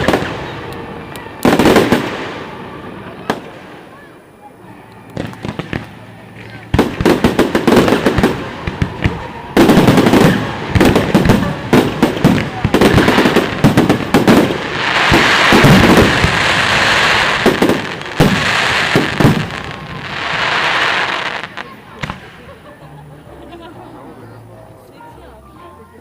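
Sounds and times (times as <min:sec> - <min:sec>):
fireworks bangs and cracks: 0:00.0 - 0:22.6
fireworks hissing crackle: 0:00.0 - 0:22.8.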